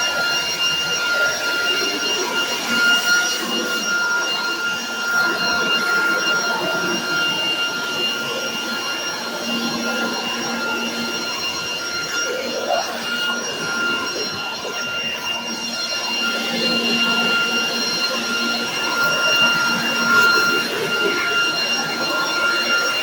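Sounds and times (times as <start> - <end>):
leaf blower running: 0.0 - 23.0.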